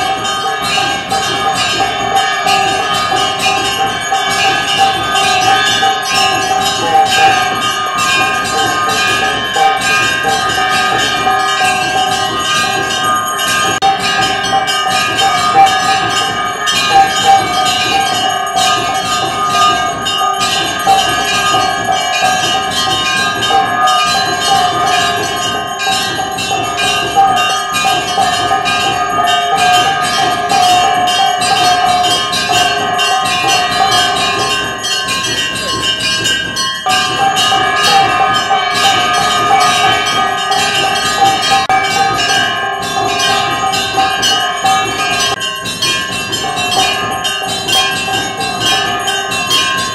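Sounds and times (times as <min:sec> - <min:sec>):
hand bell ringing rapidly: 0:00.0 - 0:49.9.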